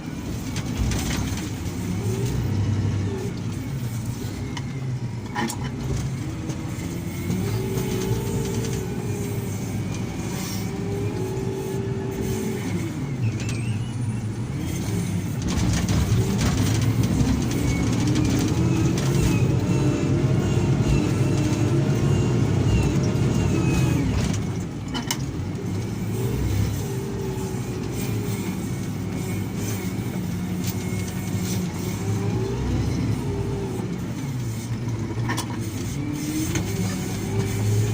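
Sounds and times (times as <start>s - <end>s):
diesel engine working under load: 0.0s - 37.9s.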